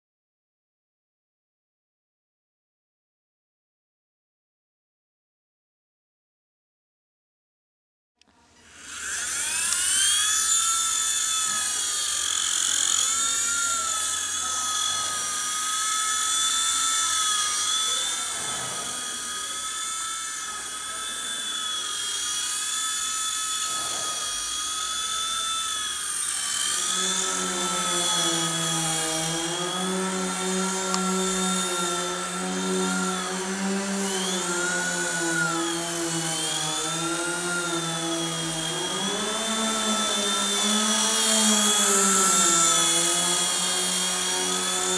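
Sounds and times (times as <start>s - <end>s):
small electric motors whining: 8.4s - 44.9s.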